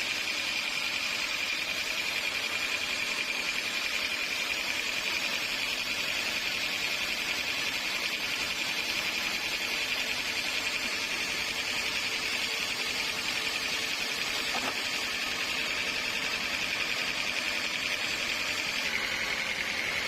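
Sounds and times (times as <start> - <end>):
saw cutting through log: 0.0 - 20.0.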